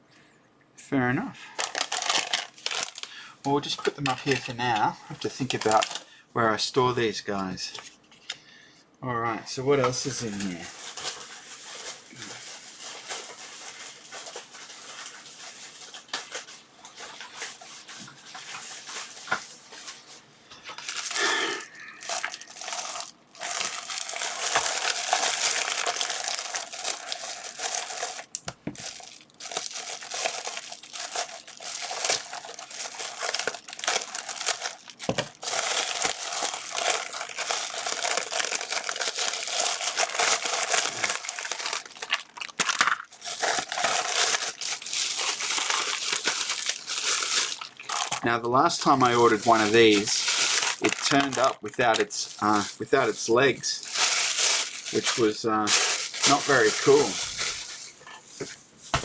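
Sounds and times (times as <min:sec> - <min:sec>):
plastic bags rustling: 0:01.4 - 0:06.1, 0:09.8 - 0:59.0.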